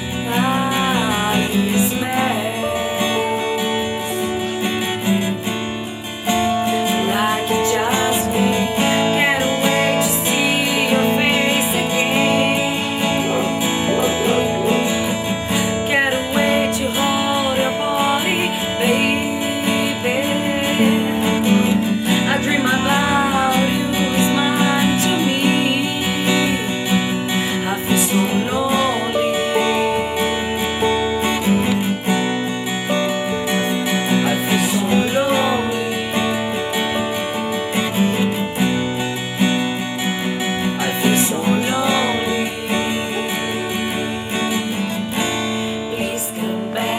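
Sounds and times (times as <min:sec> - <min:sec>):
strummed acoustic guitar: 0:00.0 - 0:46.9.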